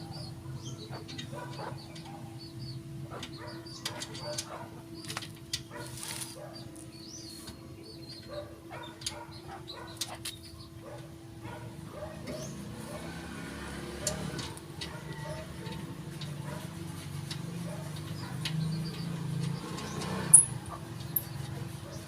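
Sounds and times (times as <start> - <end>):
small birds chirping: 0.0 - 13.1, 14.0 - 22.0.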